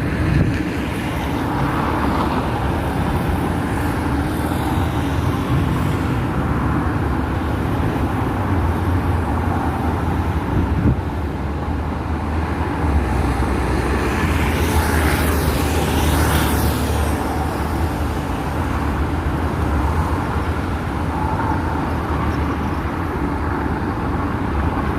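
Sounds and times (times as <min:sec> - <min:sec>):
traffic rumble: 0:00.0 - 0:24.9.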